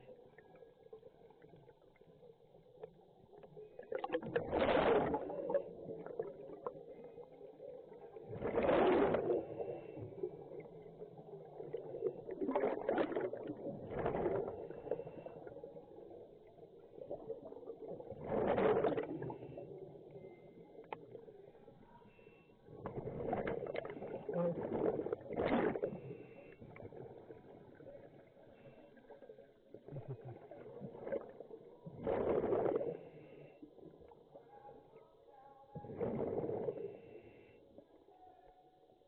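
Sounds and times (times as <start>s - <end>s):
underwater bubbles gurgling: 0.0s - 21.8s, 22.7s - 34.4s, 35.8s - 38.1s.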